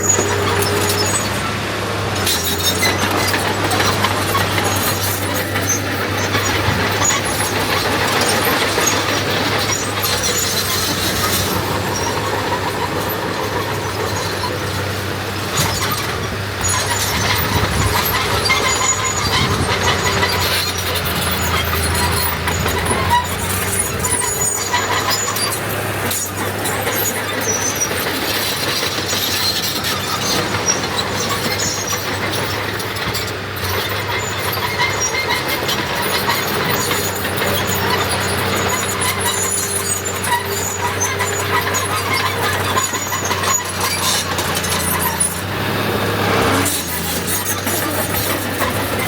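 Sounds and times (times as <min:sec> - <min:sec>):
high-pitched squeals: 0:00.0 - 0:01.6, 0:02.2 - 0:49.0
diesel machinery engine running: 0:00.0 - 0:49.0.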